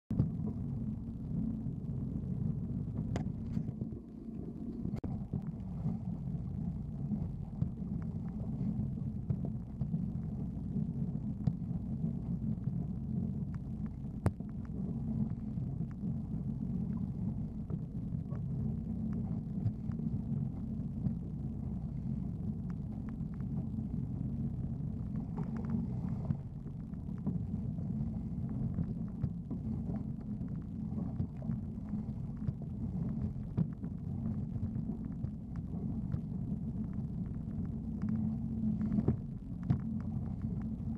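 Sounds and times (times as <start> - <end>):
hull slapping water: 0.1 - 40.9
jet ski engine rumble: 0.1 - 40.9.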